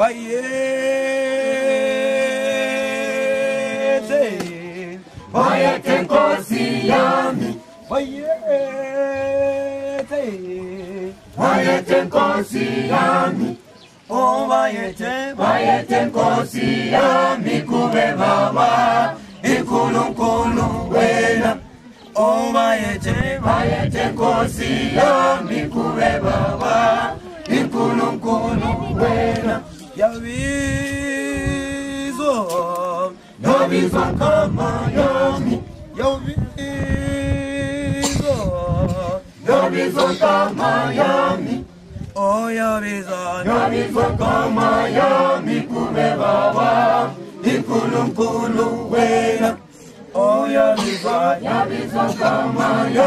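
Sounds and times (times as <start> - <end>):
choir singing a hymn: 0.0 - 30.2, 31.4 - 41.9, 43.1 - 53.0.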